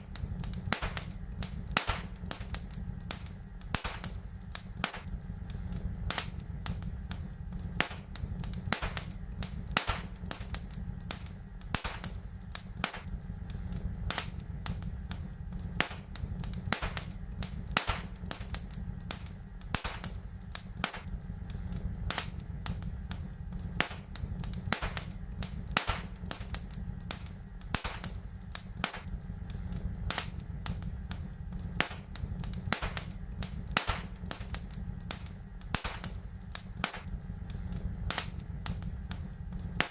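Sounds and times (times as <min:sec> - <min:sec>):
low rumble: 0:00.0 - 0:39.9
wood fire crackling: 0:00.0 - 0:39.9.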